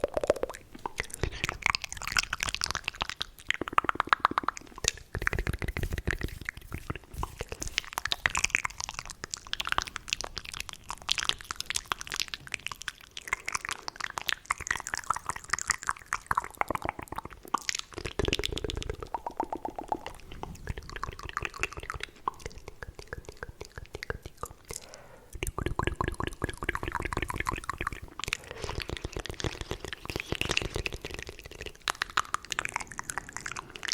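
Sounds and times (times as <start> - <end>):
wet mouth clicks and smacks: 0.0 - 33.9.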